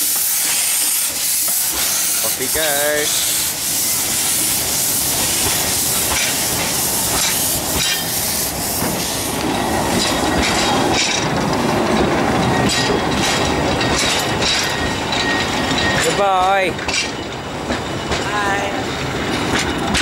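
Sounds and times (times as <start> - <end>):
steam locomotive hissing: 0.0 - 20.0
train wheels clicking over rail joints: 0.0 - 20.0.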